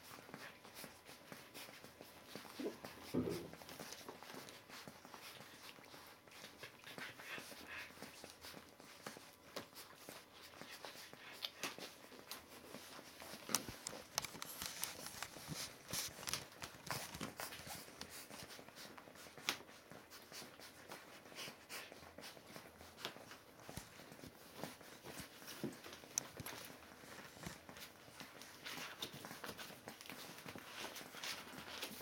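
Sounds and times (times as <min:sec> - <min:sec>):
puppies rustling and suckling: 0:00.0 - 0:32.0.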